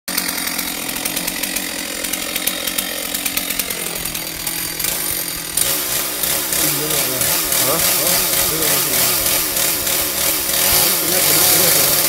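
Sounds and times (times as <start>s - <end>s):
chainsaw cutting branches: 0.1s - 12.0s.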